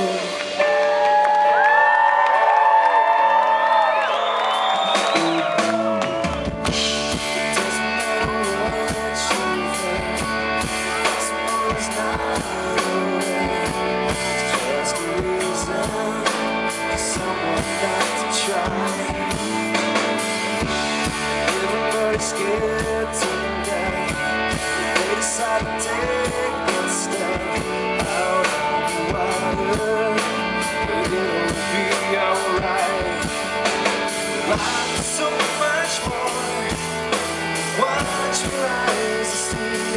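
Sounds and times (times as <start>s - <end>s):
bass guitar: 0.0s - 39.9s
electric guitars: 0.0s - 39.9s
keyboard: 0.0s - 39.9s
driving drum kit: 3.4s - 39.9s.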